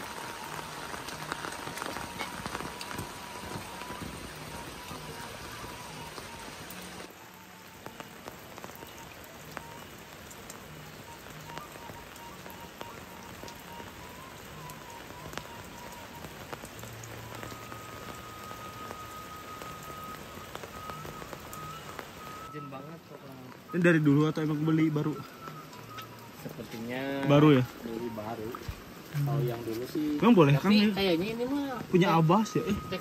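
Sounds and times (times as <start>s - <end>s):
sharp raindrop hits: 0.0s - 33.0s
steady rain: 0.0s - 33.0s.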